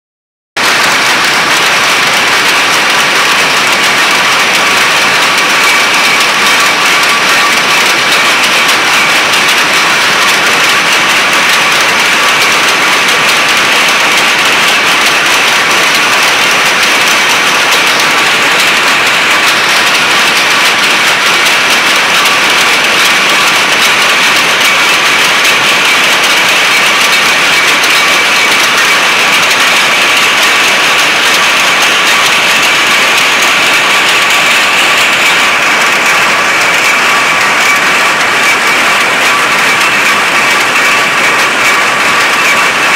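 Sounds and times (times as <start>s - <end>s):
power looms clattering: 0.6s - 42.9s.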